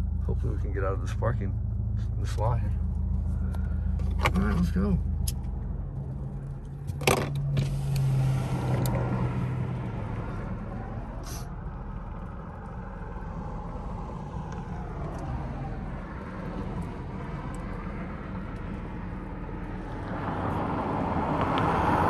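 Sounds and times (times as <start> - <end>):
car engine idling: 0.0 - 20.7
traffic passing outside: 0.0 - 22.0.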